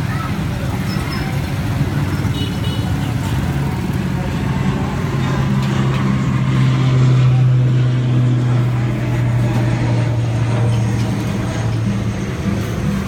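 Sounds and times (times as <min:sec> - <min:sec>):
engine humming steadily: 0:00.0 - 0:13.0
street background noise: 0:00.0 - 0:13.0.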